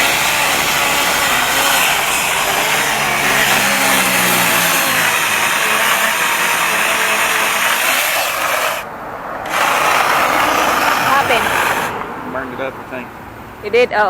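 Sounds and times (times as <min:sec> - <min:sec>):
angle grinder chainsaw cutting wood: 0:00.0 - 0:12.0.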